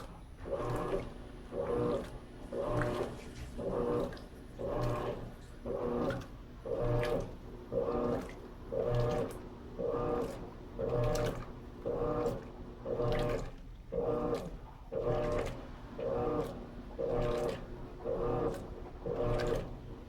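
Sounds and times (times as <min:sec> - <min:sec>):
agitator swishing water: 0:00.0 - 0:20.0
washing machine motor pulsing: 0:00.0 - 0:20.0.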